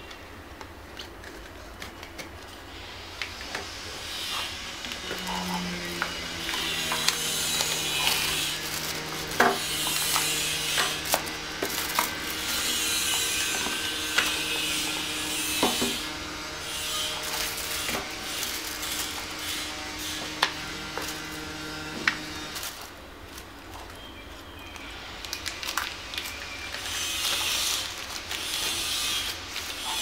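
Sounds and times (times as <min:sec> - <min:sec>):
plastic and paper rustling: 0:00.6 - 0:03.6, 0:04.3 - 0:30.0.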